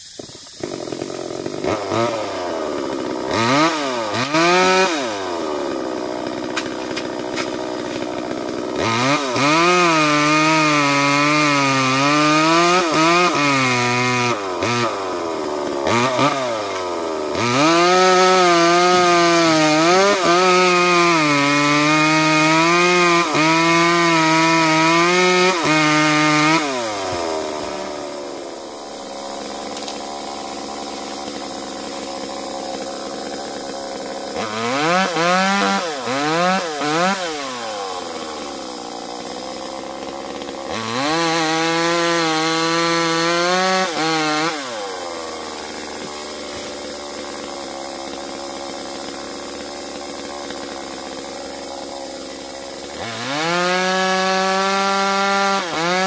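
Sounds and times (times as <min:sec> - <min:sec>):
chainsaw engine revving and idling: 0:00.0 - 0:56.0.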